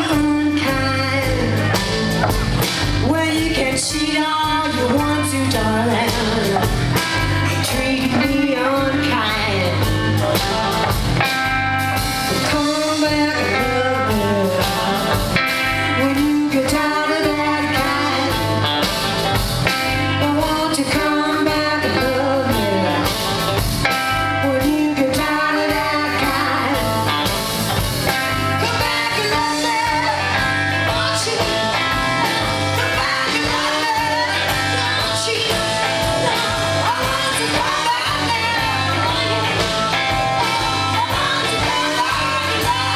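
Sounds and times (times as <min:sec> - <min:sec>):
woman singing: 0:00.0 - 0:10.4, 0:12.2 - 0:23.2, 0:23.9 - 0:42.9
electric bass: 0:00.0 - 0:42.9
electric guitars: 0:00.0 - 0:42.9.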